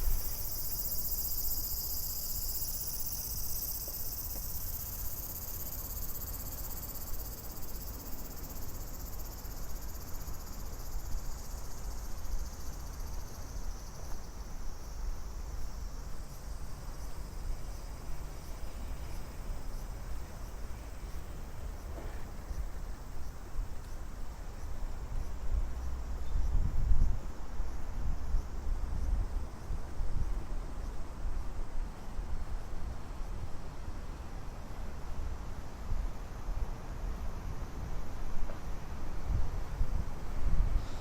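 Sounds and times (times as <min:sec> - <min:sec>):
cicadas chorus: 0:00.0 - 0:31.6, 0:32.5 - 0:41.0.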